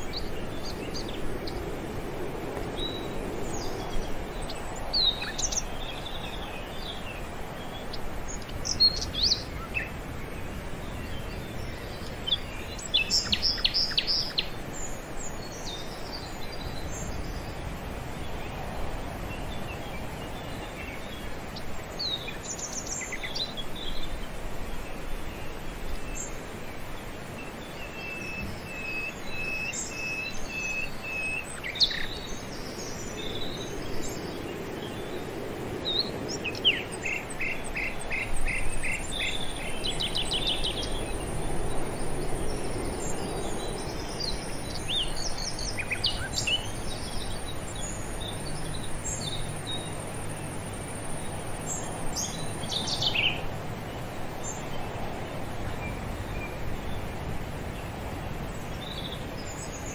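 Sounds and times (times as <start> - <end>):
birds calling and chirping: 0.0 - 59.9
high insect drone: 0.0 - 59.9
steady outdoor noise: 0.0 - 59.9.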